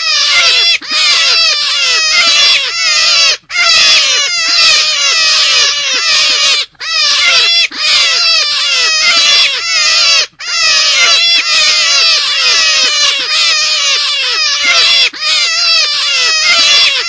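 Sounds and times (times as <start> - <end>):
rabbit squeals: 0.0 - 17.0.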